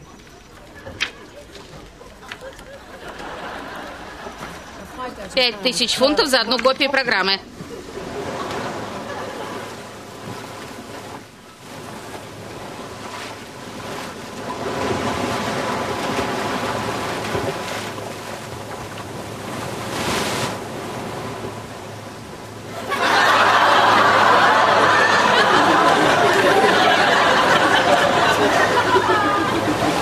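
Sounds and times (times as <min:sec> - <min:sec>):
surf washing onto shingle beach: 0:00.0 - 0:30.0.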